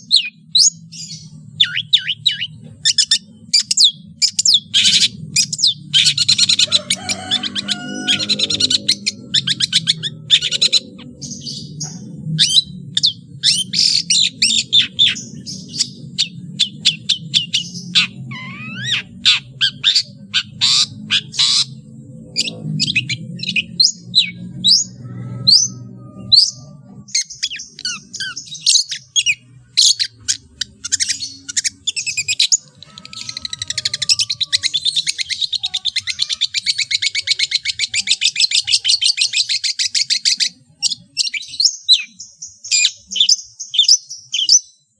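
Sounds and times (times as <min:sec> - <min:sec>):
bird singing chirps and whistles: 0:00.0 - 0:44.8
bird trill: 0:00.0 - 0:44.9.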